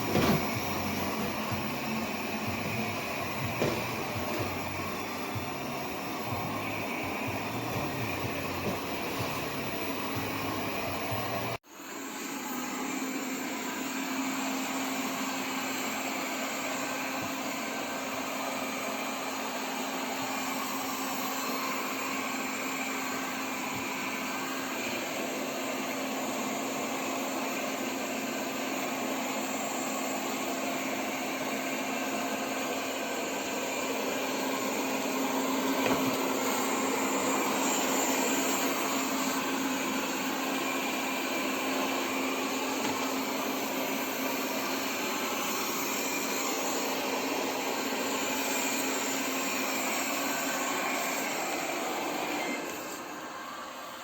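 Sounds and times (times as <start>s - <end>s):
robot vacuum running: 0.0s - 54.0s.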